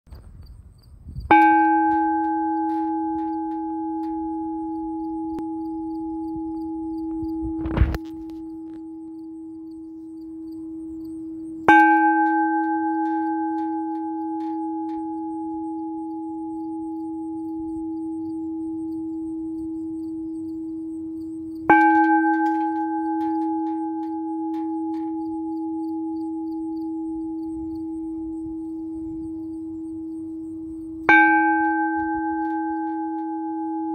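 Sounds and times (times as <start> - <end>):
deep bell ringing: 1.2 - 33.9.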